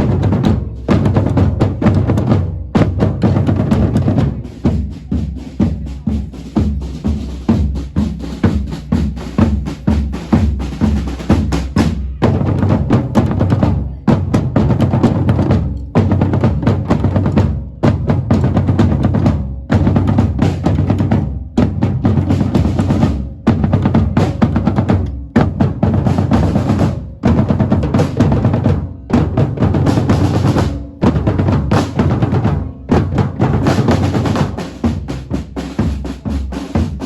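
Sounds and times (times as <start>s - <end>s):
bass drum: 0.0s - 37.0s
snare drum: 0.0s - 37.0s.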